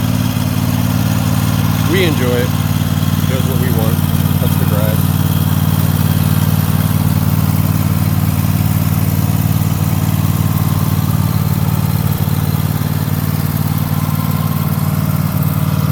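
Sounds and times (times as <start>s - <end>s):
riding mower engine running: 0.0s - 15.9s.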